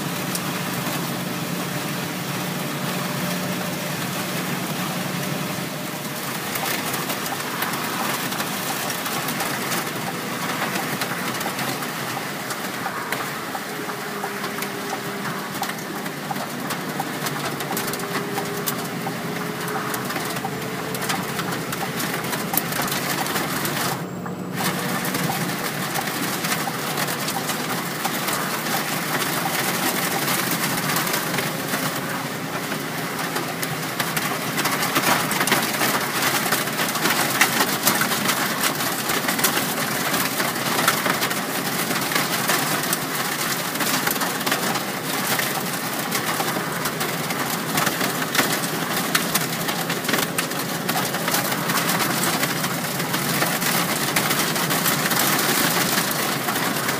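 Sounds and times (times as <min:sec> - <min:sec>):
rain drumming on car: 0:00.0 - 0:56.9
road and engine noise: 0:00.0 - 0:56.9.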